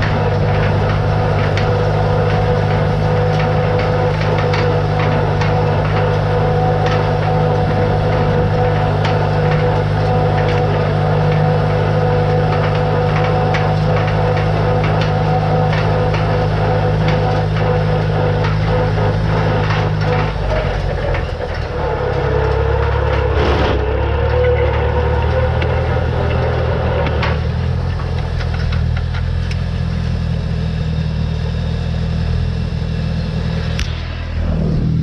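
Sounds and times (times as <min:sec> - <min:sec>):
sharp clicks and knocks: 0:00.0 - 0:30.1, 0:33.8 - 0:34.1
tractor engine running: 0:00.0 - 0:35.0.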